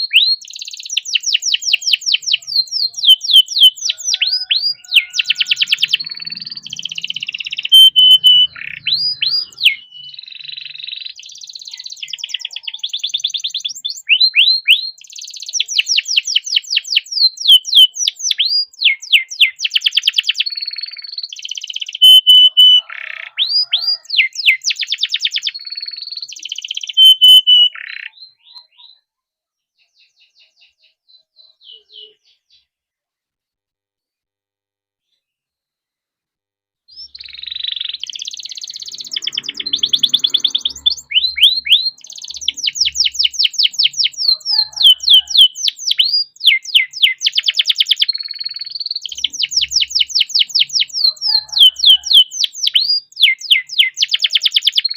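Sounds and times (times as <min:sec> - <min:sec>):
canary singing trills: 0:00.0 - 0:32.7, 0:36.9 - 0:54.9.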